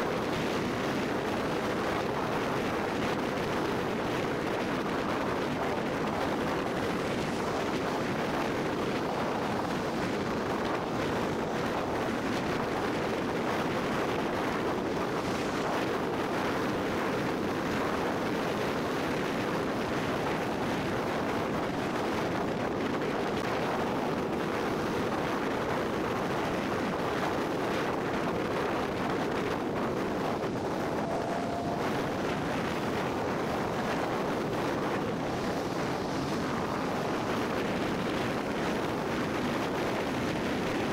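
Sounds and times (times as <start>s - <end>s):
car road and wind noise: 0.0s - 40.9s.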